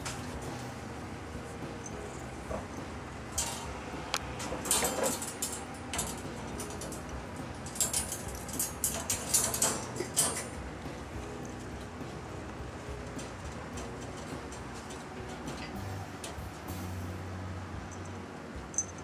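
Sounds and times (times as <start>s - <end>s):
wire cage rattling and creaking: 0.0s - 19.0s.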